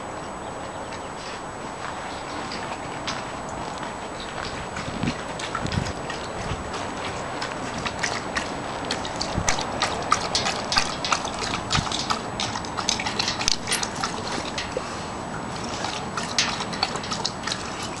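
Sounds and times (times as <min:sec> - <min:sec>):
dog lapping water: 0:02.4 - 0:18.0.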